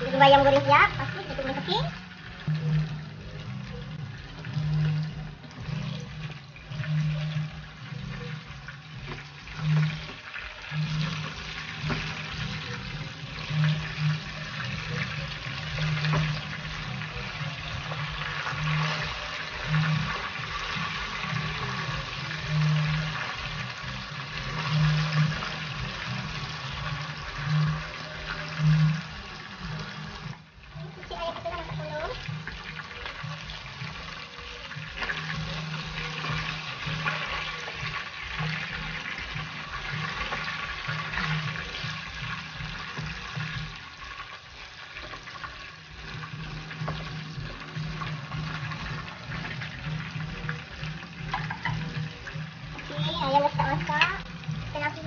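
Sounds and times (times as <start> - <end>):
oil sizzling in a pan: 0.0 - 55.0.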